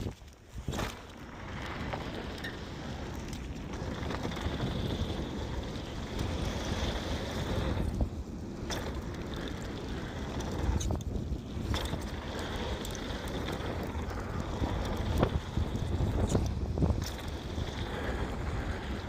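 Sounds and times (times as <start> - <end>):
bike knocking and rattling: 0.0 - 19.0
tyres rumbling on dirt trail: 0.0 - 19.0
wind buffeting microphone: 0.0 - 19.0.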